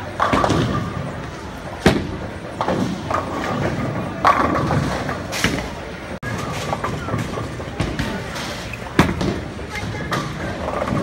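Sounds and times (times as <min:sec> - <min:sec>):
bowling ball thudding and rolling: 0:00.0 - 0:11.0
rumble and clatter of bowling lanes: 0:00.0 - 0:11.0.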